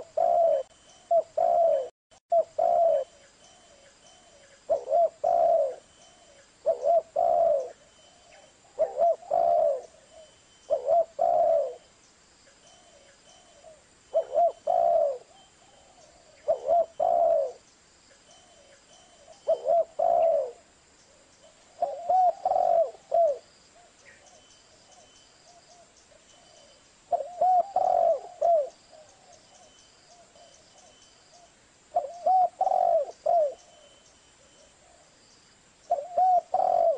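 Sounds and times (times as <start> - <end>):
dove cooing: 0.0 - 11.9, 12.7 - 17.7, 18.4 - 35.2, 35.9 - 36.9.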